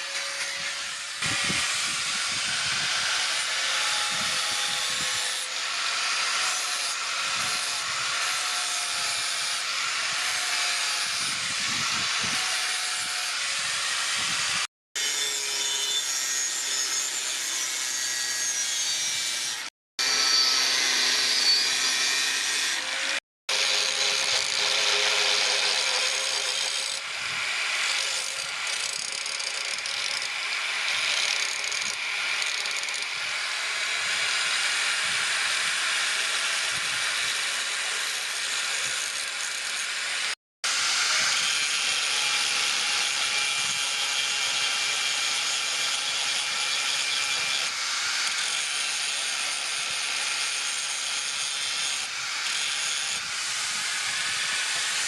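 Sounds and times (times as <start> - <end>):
power tool grinding steel: 0.0 - 55.0.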